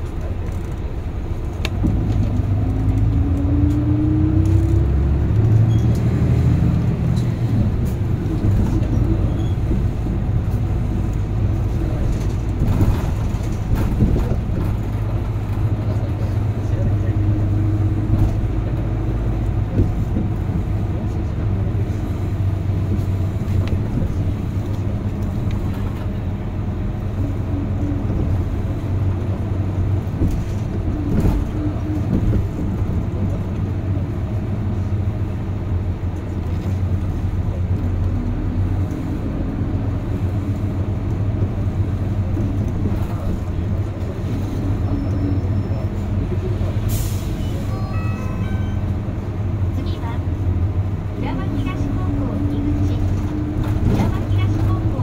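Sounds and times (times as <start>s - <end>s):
bus engine droning: 0.0s - 55.0s
road noise: 0.0s - 55.0s.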